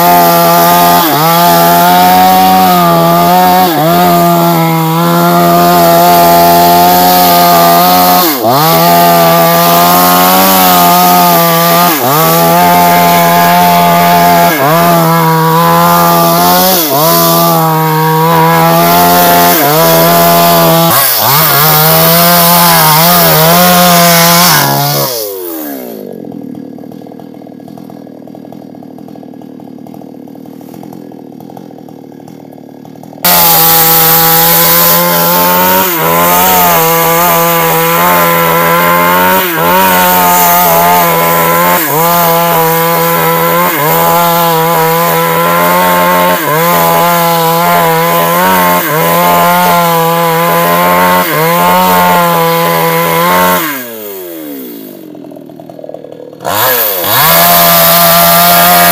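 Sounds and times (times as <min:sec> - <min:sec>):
chainsaw cutting wood: 0:00.0 - 0:58.9
chainsaw idling: 0:00.0 - 0:58.9.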